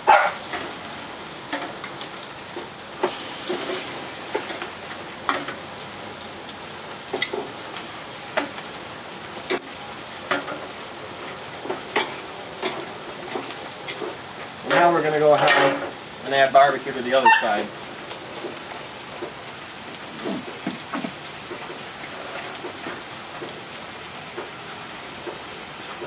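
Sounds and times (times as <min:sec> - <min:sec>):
ribs sizzling on a grill: 0:00.0 - 0:26.0.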